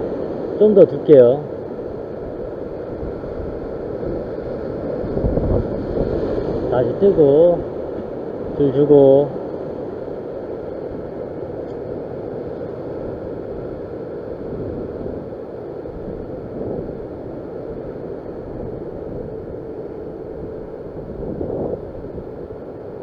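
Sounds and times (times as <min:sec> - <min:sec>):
ocean surf washing over rocks: 0:00.0 - 0:23.0
wind buffeting microphone: 0:00.0 - 0:23.0.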